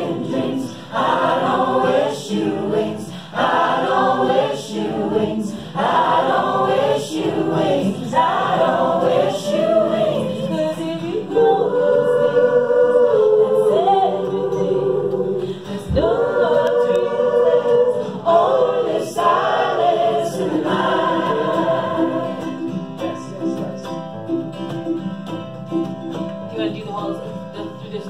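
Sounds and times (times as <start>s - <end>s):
choir singing in harmony: 0.0s - 24.3s.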